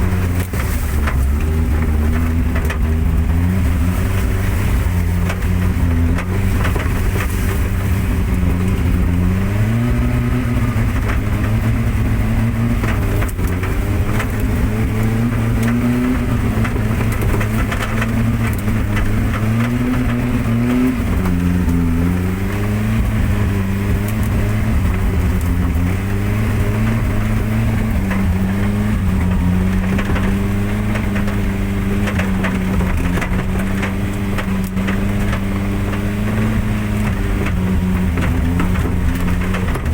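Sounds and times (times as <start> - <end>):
vehicle engine revving: 0.0 - 39.9
vehicle knocks and rattles: 0.0 - 39.9.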